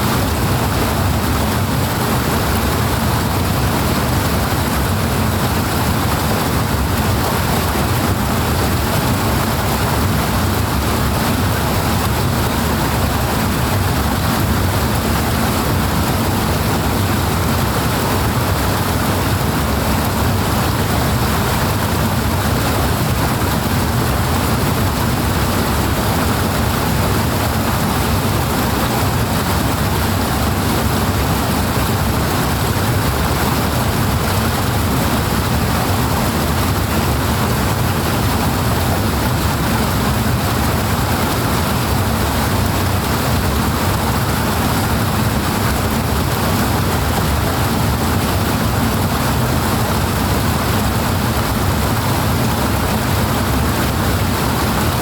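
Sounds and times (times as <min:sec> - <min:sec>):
powerful rushing water: 0:00.0 - 0:55.0.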